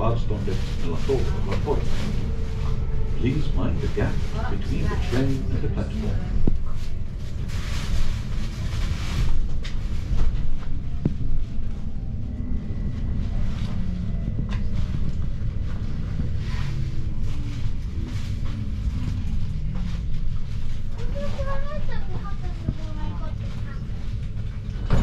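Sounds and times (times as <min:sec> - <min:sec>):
electric train slowing with whine: 0:00.0 - 0:06.6, 0:07.4 - 0:20.9.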